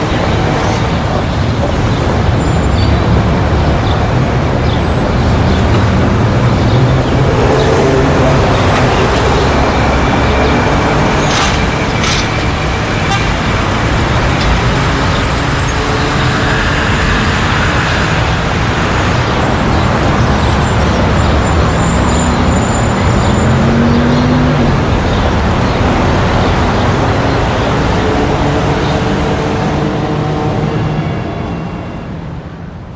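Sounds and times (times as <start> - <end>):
vehicle accelerating: 0.0 - 31.9
vehicle engines passing: 0.0 - 32.9.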